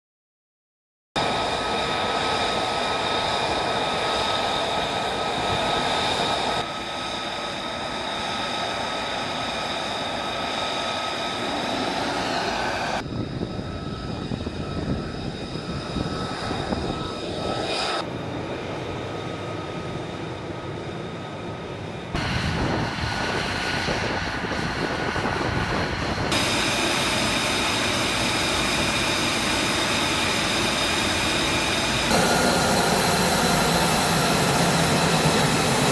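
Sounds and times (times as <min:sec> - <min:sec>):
jet engine turbine whine: 0:01.2 - 0:35.9.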